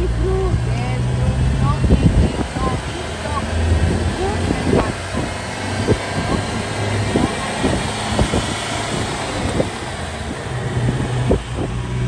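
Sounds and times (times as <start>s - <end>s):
car engine running: 0.0s - 12.0s
wind and road noise: 0.0s - 12.0s.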